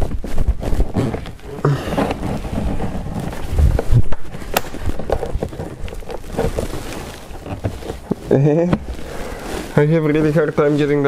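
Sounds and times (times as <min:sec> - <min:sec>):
dull thumps: 0:00.0 - 0:10.5.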